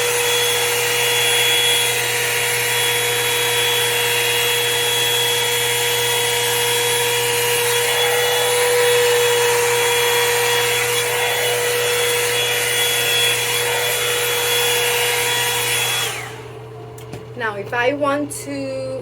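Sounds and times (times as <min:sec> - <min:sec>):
hair dryer brush motor whine: 0:00.0 - 0:17.4.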